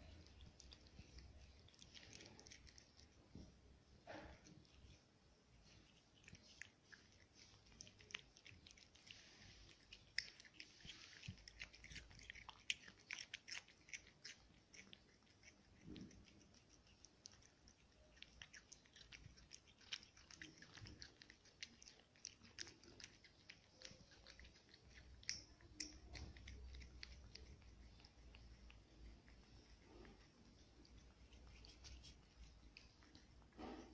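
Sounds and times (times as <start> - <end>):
cat chewing and licking food: 0.0 - 33.9.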